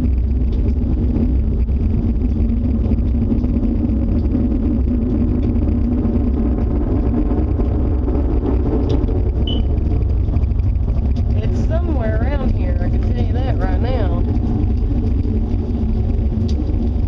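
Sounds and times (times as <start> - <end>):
loud low roaring rumble: 0.0 - 17.0.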